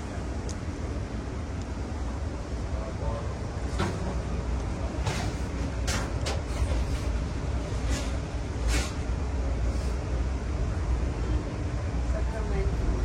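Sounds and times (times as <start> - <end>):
train clacks and rattles: 0.0 - 13.0
train rumbling on rails: 0.0 - 13.0.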